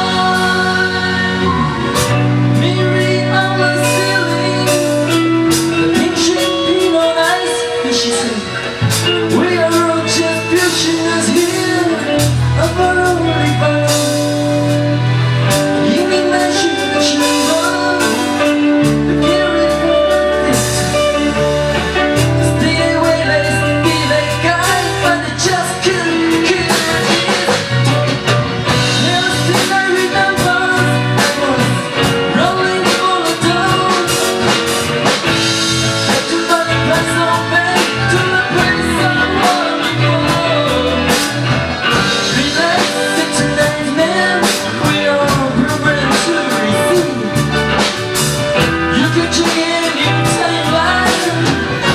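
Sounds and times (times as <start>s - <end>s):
person singing: 0.0s - 51.9s
rock band playing: 0.0s - 51.9s.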